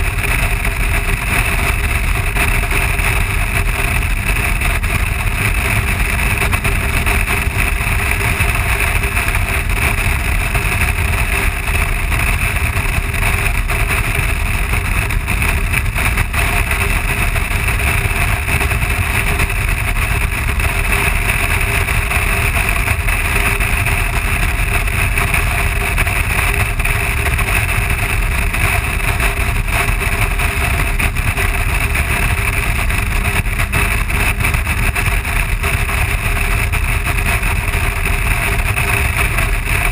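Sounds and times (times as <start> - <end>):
motorcycle engine drone: 0.0 - 39.9
wind rush on camera: 0.0 - 39.9.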